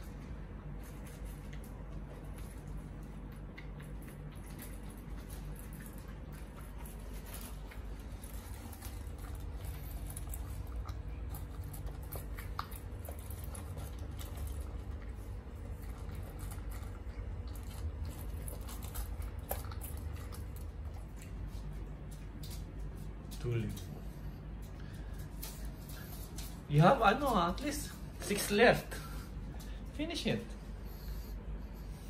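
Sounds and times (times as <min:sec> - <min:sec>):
dog crunching dry kibble: 0:00.0 - 0:30.4
steady low hum: 0:00.0 - 0:32.0.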